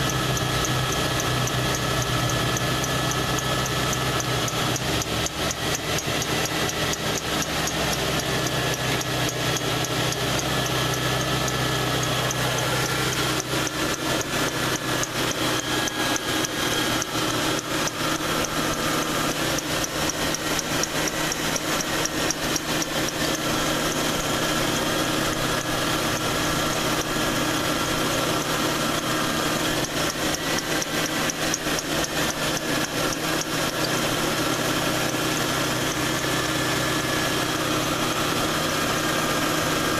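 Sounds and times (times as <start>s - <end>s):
car engine idling: 0.0s - 39.9s
compressor clutch cycling: 0.0s - 39.9s
fast ticking: 0.0s - 39.9s.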